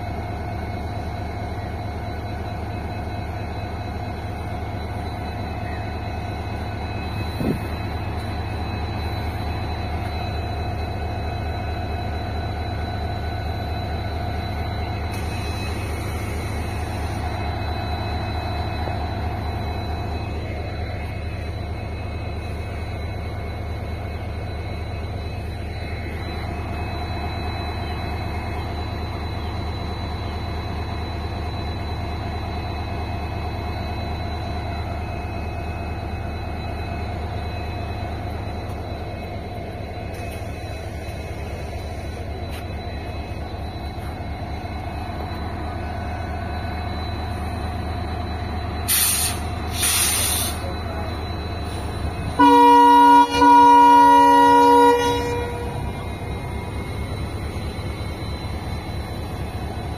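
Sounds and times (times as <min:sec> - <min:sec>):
diesel locomotive engine rumble: 0:00.0 - 0:59.9
steady high whine: 0:00.0 - 0:59.9.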